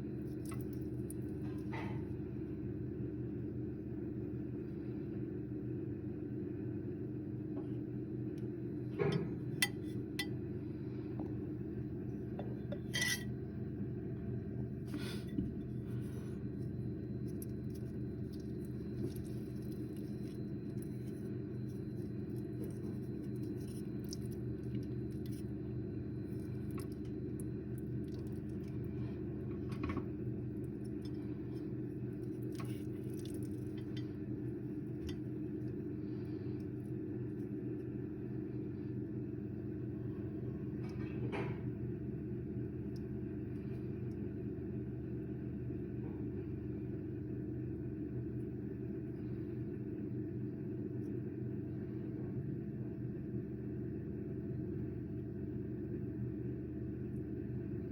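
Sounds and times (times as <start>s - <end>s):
microwave oven humming: 0.0s - 57.9s.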